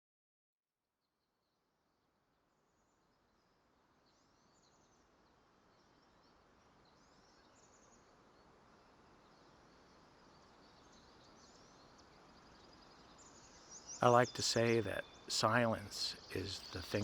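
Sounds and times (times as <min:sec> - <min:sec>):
soft steady hiss: 0:02.5 - 0:17.0.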